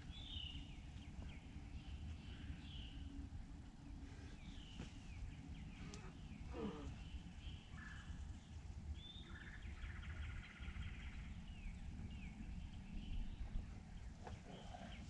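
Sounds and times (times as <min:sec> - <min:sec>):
low steady rumble: 0:00.0 - 0:15.0
wild birds calling: 0:00.0 - 0:15.0.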